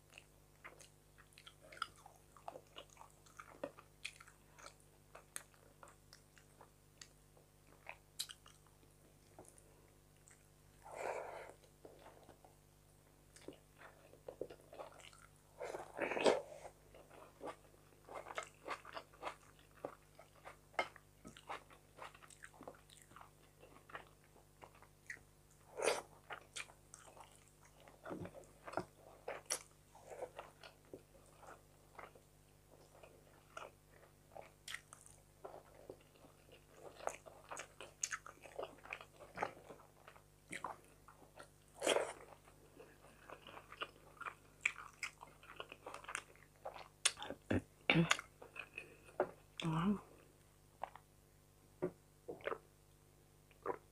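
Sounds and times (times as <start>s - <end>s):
chewing and crunching food: 0.0s - 51.1s.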